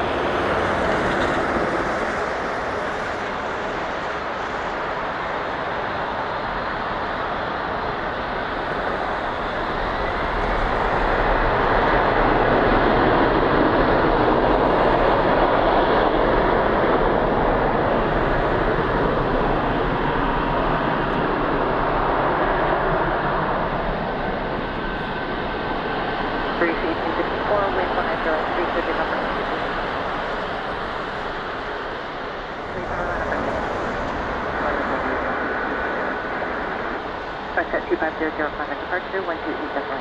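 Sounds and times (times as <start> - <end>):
jet engines roaring at takeoff: 0.0 - 40.0.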